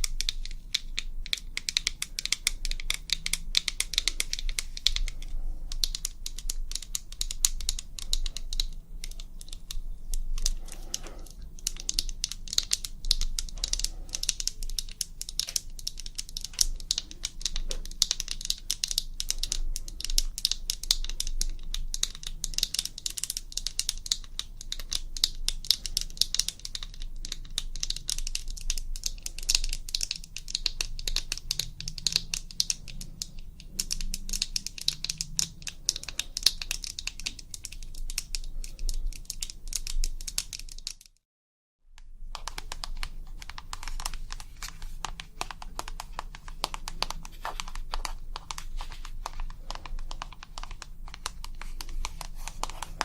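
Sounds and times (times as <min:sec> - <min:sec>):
fast light tapping clicks: 0:00.0 - 0:41.2, 0:42.0 - 0:53.0.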